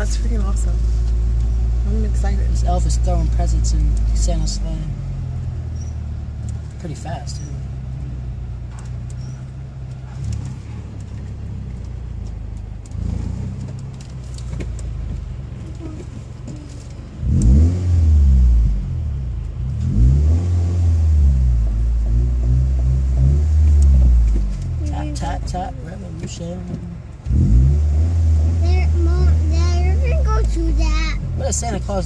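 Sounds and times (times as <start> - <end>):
car cabin engine and tyre rumble: 0.0 - 32.0.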